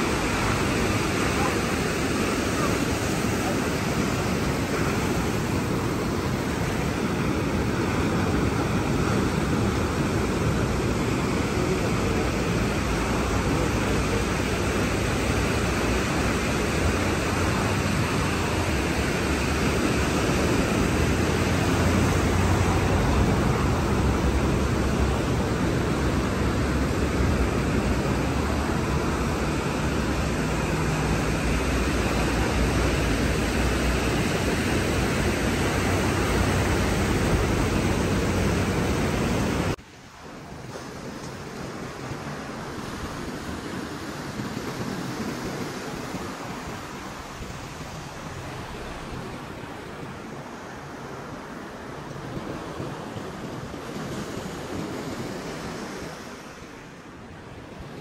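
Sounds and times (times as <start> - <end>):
sea surf rushing: 0.0 - 58.0.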